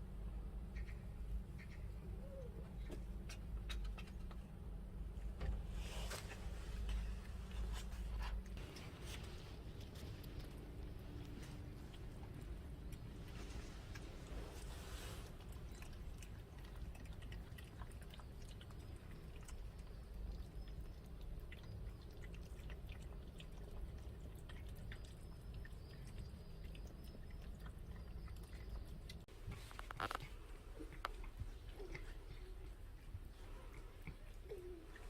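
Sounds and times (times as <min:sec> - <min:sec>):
steady low rumble: 0:00.0 - 0:35.0
cats chewing food: 0:02.6 - 0:05.6, 0:06.3 - 0:35.0.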